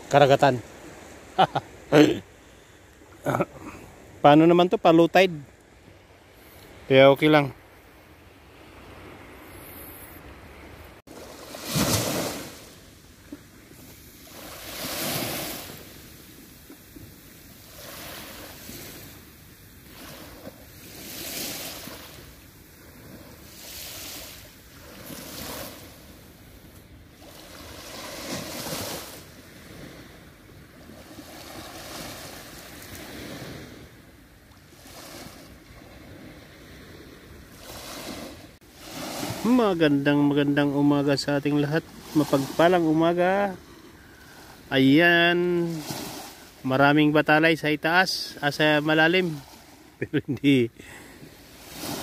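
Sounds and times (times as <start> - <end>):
waves washing on sandy shore: 0.0 - 52.0.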